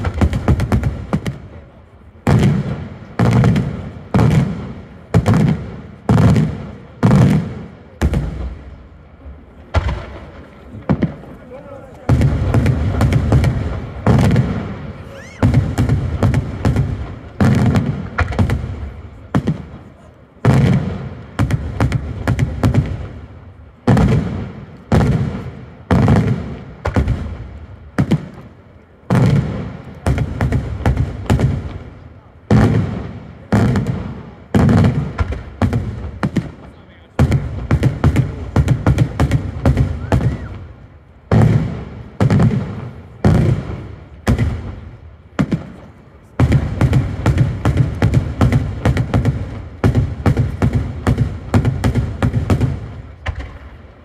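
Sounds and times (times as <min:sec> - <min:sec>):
firework bangs with rumble: 0:00.0 - 0:54.0
fireworks crackling: 0:00.0 - 0:54.0.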